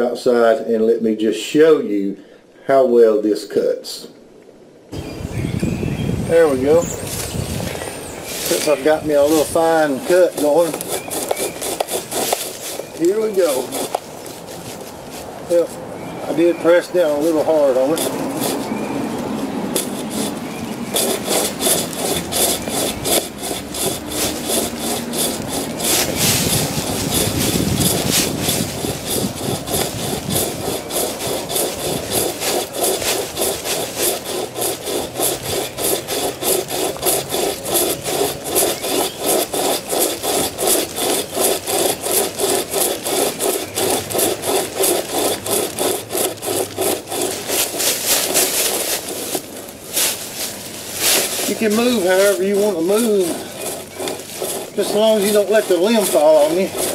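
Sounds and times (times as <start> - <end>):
chain saw rasping through wood: 6.3 - 56.9.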